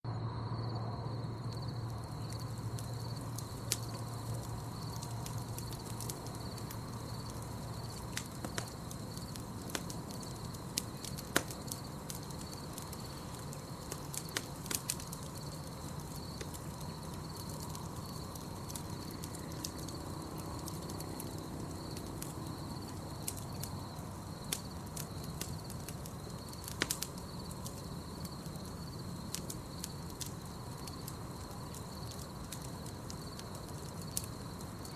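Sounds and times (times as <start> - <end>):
night insects chirring: 0.1 - 34.9
campfire crackling and popping: 1.2 - 34.9.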